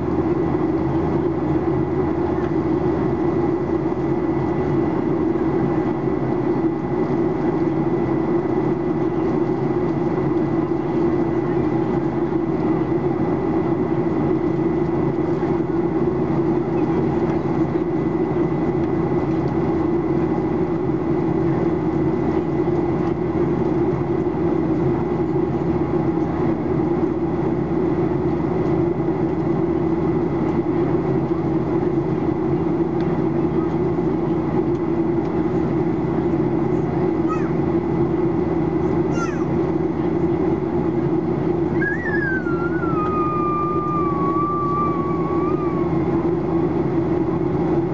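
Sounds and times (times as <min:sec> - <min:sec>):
airplane cabin drone: 0:00.0 - 0:47.9
thin steady whine: 0:00.0 - 0:47.9.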